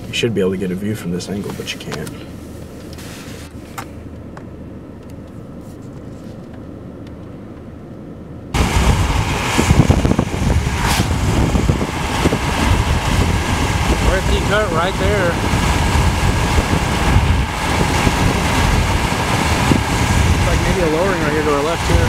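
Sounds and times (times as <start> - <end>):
road and wind noise in car: 0.0 - 22.0
low rumble: 3.6 - 22.0.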